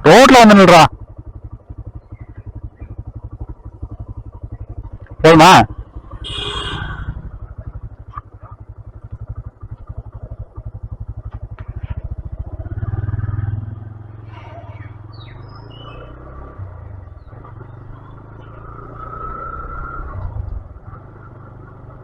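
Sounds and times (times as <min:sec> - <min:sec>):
motorcycle engine idling: 0:00.0 - 0:18.8, 0:20.2 - 0:22.0.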